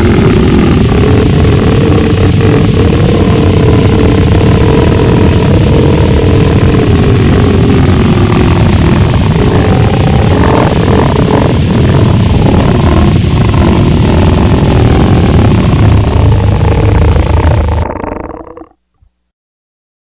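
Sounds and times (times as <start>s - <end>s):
deep low rumble: 0.0s - 18.8s
harsh distorted noise: 0.0s - 18.9s.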